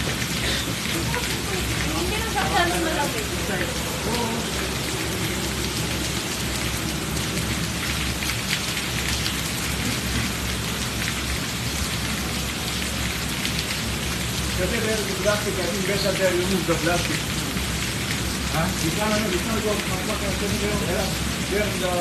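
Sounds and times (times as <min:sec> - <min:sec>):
heavy rain splashing on pavement: 0:00.0 - 0:22.0.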